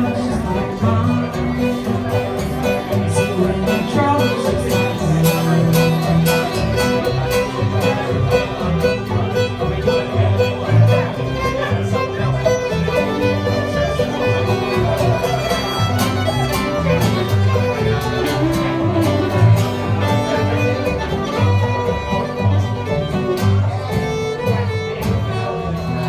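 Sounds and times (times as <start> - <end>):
acoustic guitar: 0.0 - 26.0
bowed fiddle melody: 0.0 - 26.0
plucked upright bass: 0.0 - 26.0.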